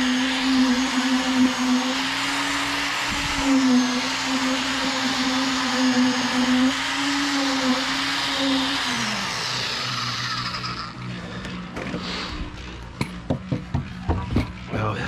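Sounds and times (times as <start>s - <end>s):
concrete vibrator motor humming: 0.0s - 15.0s.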